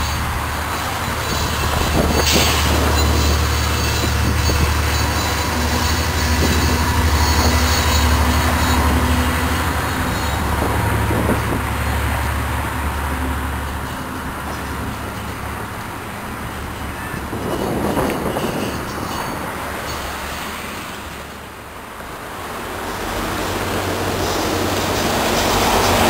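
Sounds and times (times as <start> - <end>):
locomotive engine drone: 0.0 - 26.0
train wheels rolling on rails: 0.0 - 26.0.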